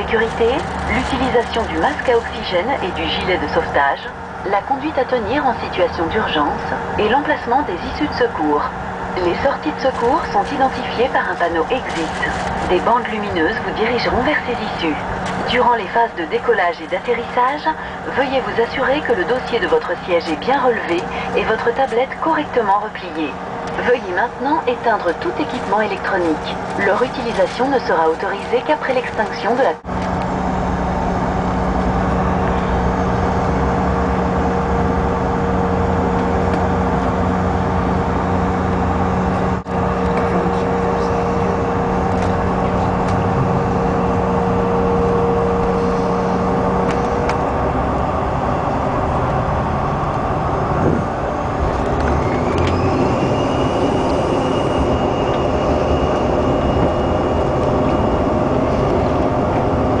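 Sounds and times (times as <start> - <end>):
jet cabin rumble: 0.0 - 60.0
jet engine whine rising: 0.0 - 60.0.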